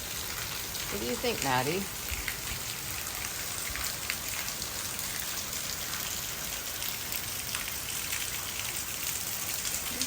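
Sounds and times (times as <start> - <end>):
heavy rain pattering: 0.0 - 10.0.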